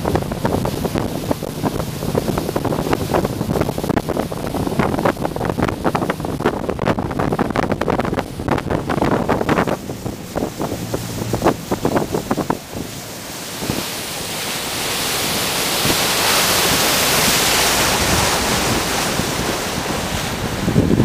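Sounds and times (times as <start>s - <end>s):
water rushing along hull: 0.0s - 21.0s
wind buffeting microphone: 0.0s - 21.0s.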